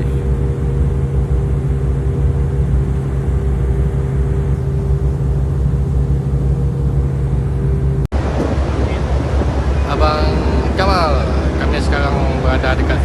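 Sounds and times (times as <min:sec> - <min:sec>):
ferry engine droning: 0:00.0 - 0:13.0.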